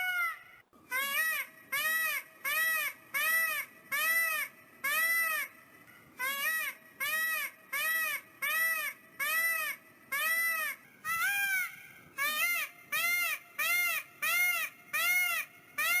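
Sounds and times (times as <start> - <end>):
peacock calling: 0.0 - 5.6, 6.2 - 16.0.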